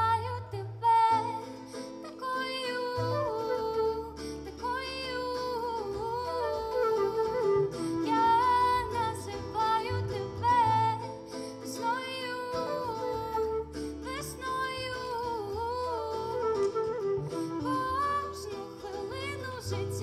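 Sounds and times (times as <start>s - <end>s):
acoustic guitar: 0.0s - 20.0s
cello: 0.0s - 20.0s
woman singing: 0.0s - 20.0s
flute: 2.4s - 20.0s.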